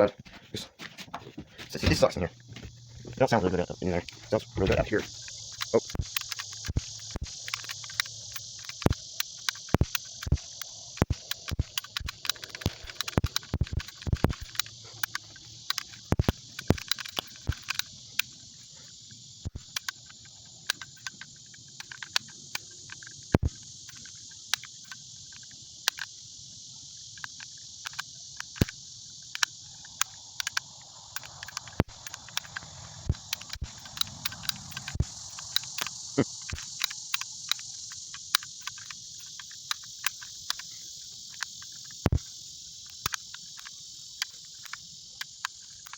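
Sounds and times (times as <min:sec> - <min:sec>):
crickets chirring: 0:00.0 - 0:45.9.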